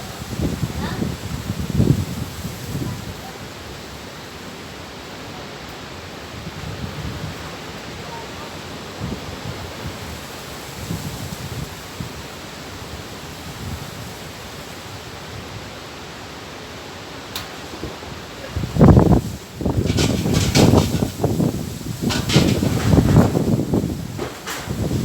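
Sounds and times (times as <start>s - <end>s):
wind buffeting microphone: 0.0s - 4.5s, 6.1s - 15.8s, 17.5s - 25.0s
wind and rain hiss: 0.0s - 25.0s.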